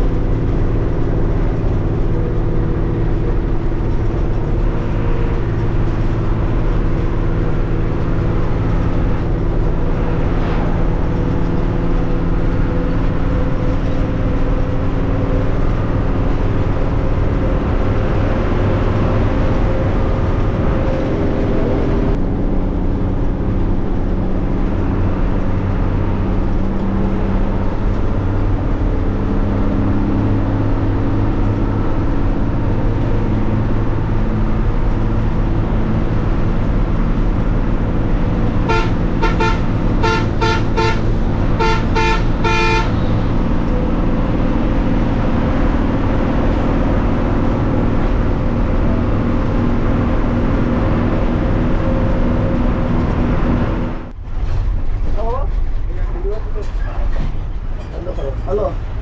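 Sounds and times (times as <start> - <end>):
bus engine: 0.0 - 59.0
road and tyre noise: 0.0 - 59.0.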